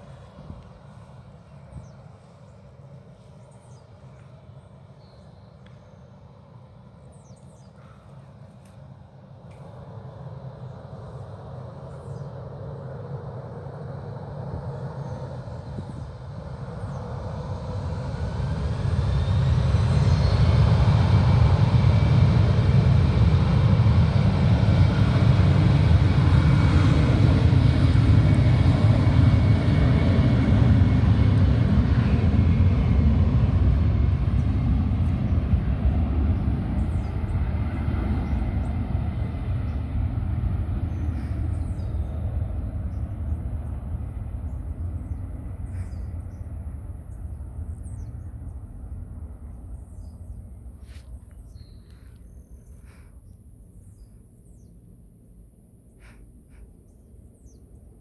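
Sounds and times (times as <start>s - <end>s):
airliner engines whining: 0.0s - 58.0s.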